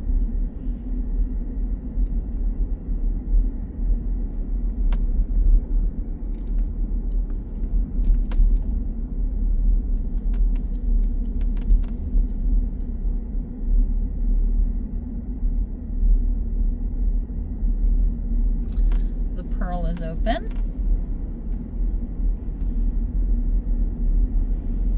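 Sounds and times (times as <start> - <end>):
car road rumble: 0.0 - 24.9.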